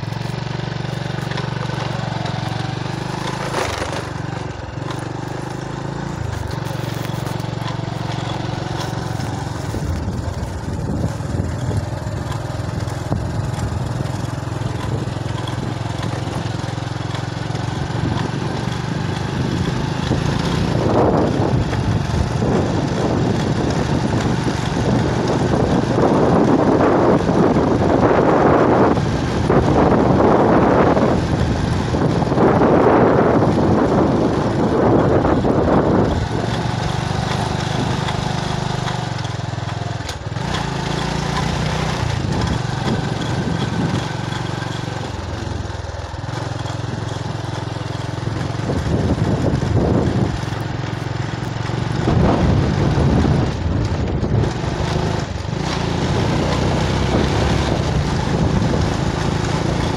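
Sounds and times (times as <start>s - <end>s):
small motorbike engine running: 0.0s - 59.9s
wind buffeting microphone: 0.0s - 59.9s.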